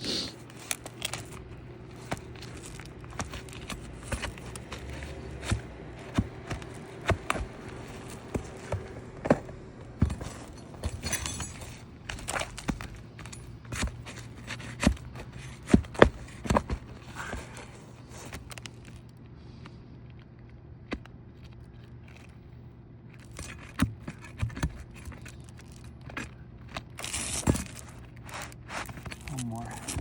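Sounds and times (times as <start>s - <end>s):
tool scraping on shingles: 0.3s - 19.1s, 23.2s - 30.0s.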